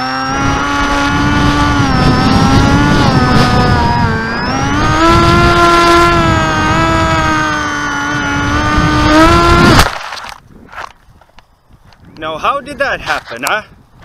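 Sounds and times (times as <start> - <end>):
electric motor and propeller whining: 0.0 - 12.1.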